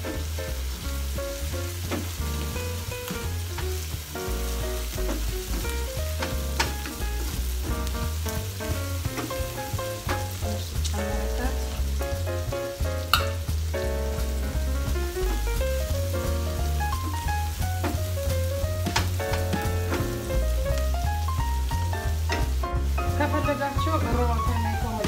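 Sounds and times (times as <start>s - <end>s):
background music with bass: 0.0s - 25.0s
onions sizzling in a frying pan: 0.0s - 25.0s
spatula knocking on pan: 0.1s - 25.0s.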